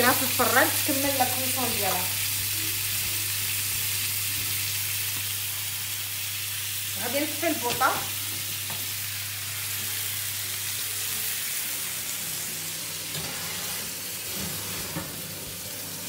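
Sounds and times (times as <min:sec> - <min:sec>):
meat sizzling in a frying pan: 0:00.0 - 0:16.0.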